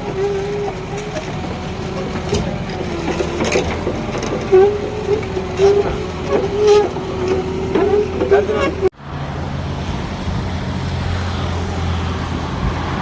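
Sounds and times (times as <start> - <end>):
mini excavator diesel engine: 0.0 - 13.0.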